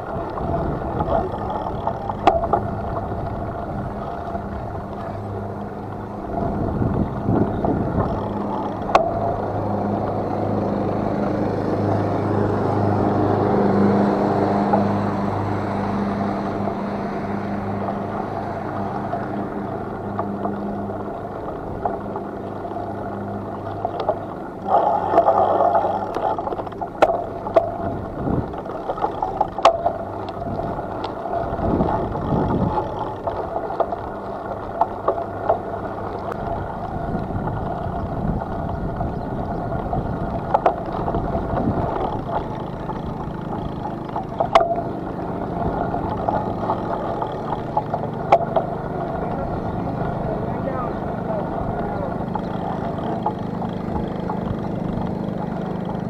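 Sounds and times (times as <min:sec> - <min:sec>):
clicks and rattles: 0:00.0 - 0:11.4, 0:16.2 - 0:56.0
bicycle rolling noise: 0:00.0 - 0:56.0
low steady hum: 0:00.0 - 0:56.0.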